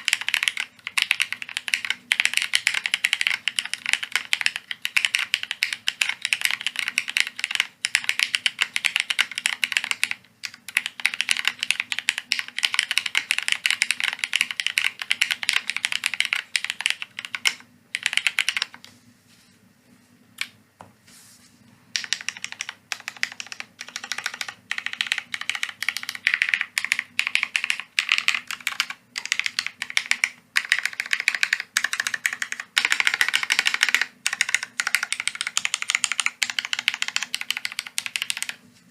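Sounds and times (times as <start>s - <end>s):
mechanical keyboard typing: 0.0s - 18.9s, 21.9s - 38.6s.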